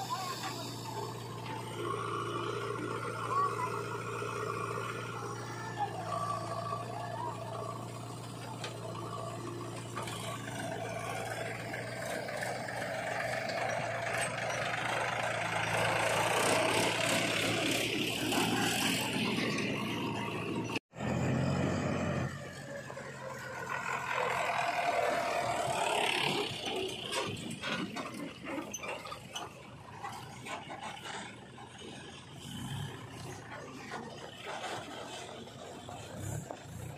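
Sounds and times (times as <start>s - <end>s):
backhoe diesel engine running: 0.0s - 36.9s
tractor diesel engine running: 0.0s - 36.9s.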